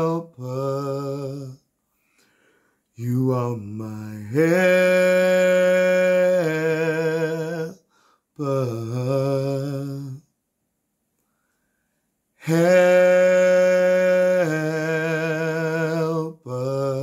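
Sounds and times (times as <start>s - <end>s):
man singing a cappella: 0.0s - 1.7s, 2.9s - 10.4s, 12.4s - 17.0s.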